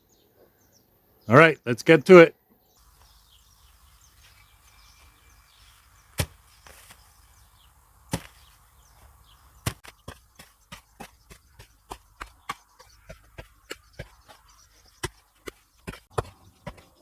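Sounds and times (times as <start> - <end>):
digging tool striking hard ground: 2.8 - 17.0.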